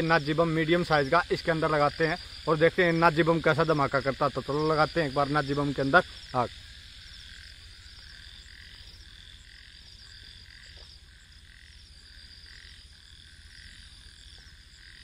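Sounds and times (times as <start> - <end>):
frogs croaking: 0.0 - 15.0
insects trilling: 0.0 - 15.0.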